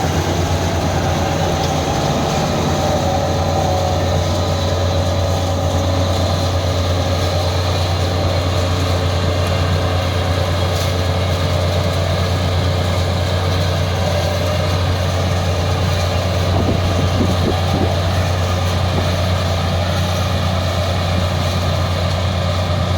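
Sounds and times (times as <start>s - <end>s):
combine harvester engine drone: 0.0s - 22.9s.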